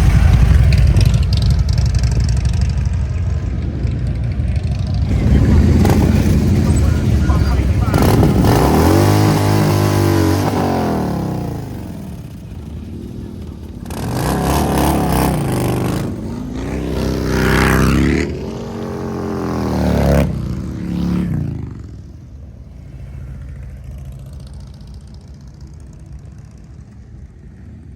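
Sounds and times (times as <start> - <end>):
motorcycle engines revving: 0.0 - 27.9.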